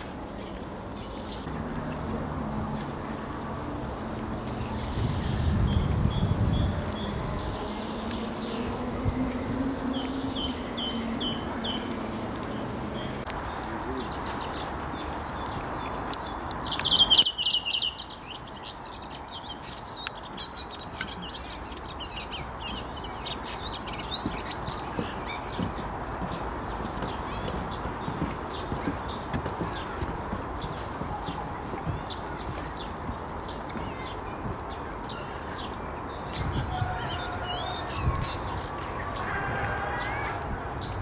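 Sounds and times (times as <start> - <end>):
songbirds chirping and singing: 0.0 - 41.0.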